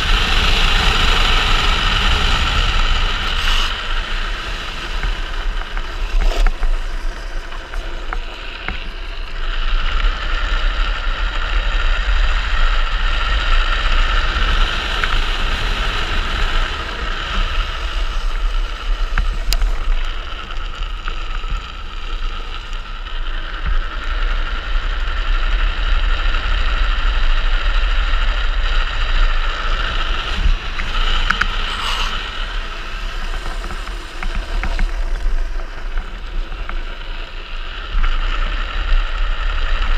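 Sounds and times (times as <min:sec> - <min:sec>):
wheels rolling on asphalt: 0:00.0 - 0:39.9.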